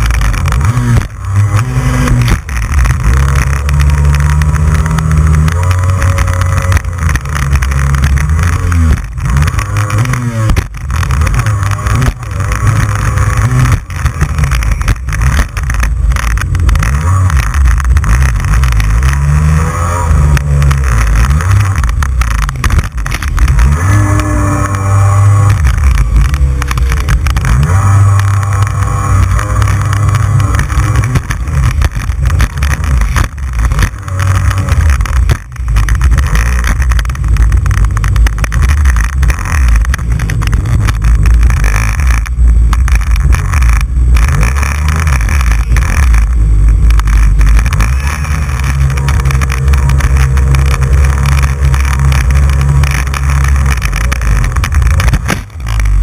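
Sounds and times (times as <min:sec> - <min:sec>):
jet ski engine running: 0:00.0 - 0:56.0.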